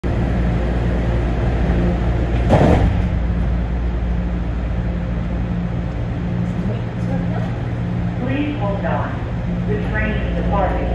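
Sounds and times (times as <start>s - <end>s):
people mover low hum: 0.0s - 10.9s.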